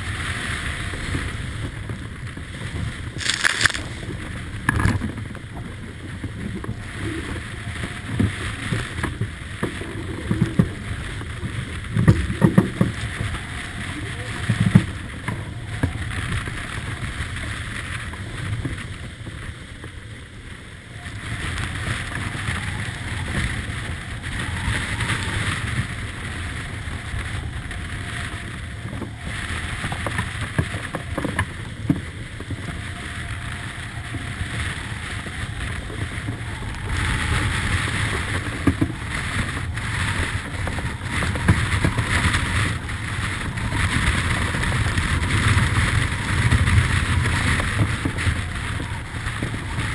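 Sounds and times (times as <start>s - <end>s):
water rushing along a hull: 0.0s - 49.9s
wind blasting the microphone: 0.0s - 49.9s.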